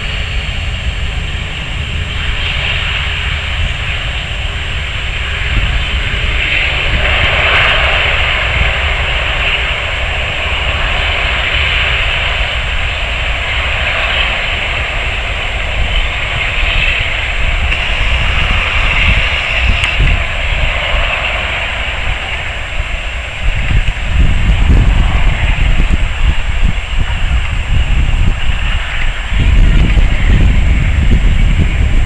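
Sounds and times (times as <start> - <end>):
jet engines roaring: 0.0 - 32.0
wind buffeting microphone: 0.0 - 32.0.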